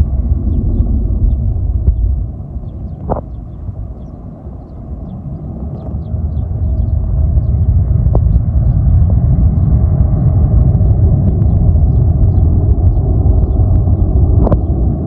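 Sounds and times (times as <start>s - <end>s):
faint steady hum: 0.0s - 15.0s
jet engines rumbling: 0.0s - 15.0s.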